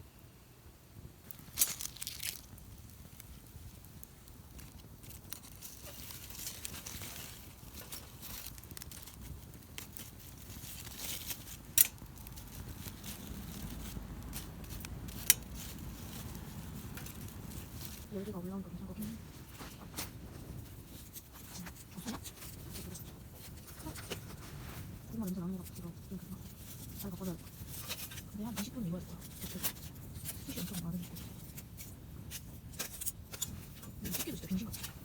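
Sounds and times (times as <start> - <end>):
campfire crackling and popping: 1.0 - 35.0.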